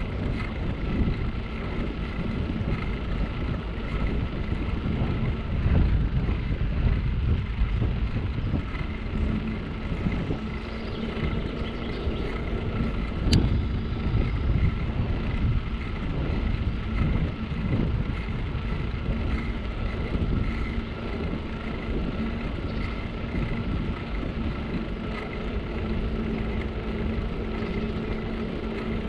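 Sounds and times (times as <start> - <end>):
bicycle tyres rolling on asphalt: 0.0 - 29.0
wind noise on microphone: 0.0 - 29.0.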